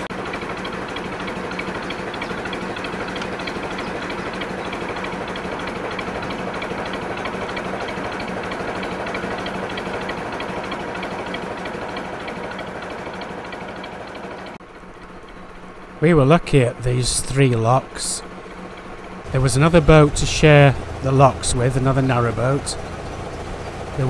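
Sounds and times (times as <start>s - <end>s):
diesel boat engine chugging: 0.0s - 24.0s.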